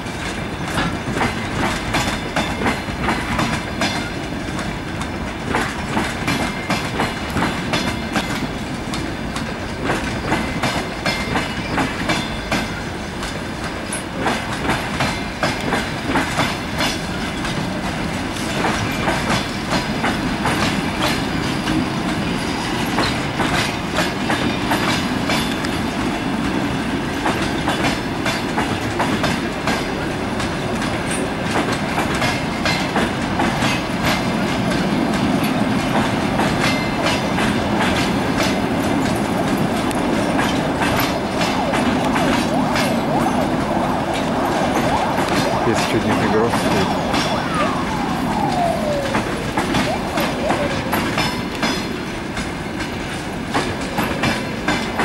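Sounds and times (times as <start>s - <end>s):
steady train rumble: 0.0s - 55.0s
train wheels clattering over rail joints: 0.0s - 55.0s.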